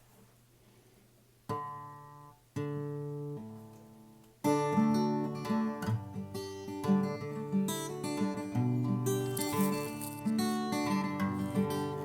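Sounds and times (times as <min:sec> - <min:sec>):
acoustic guitar strummed chords: 0:01.5 - 0:12.0.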